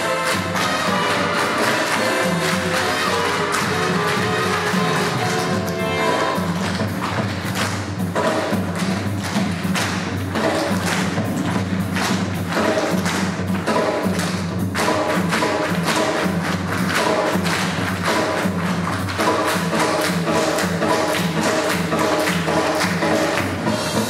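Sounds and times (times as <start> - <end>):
dance music with pounding beat: 0.0 - 24.0.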